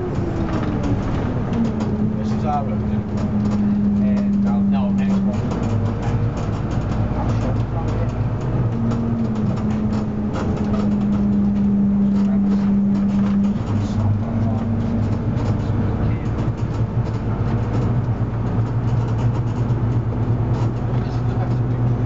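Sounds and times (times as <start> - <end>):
bus diesel engine droning: 0.0 - 22.0
road noise: 0.0 - 22.0.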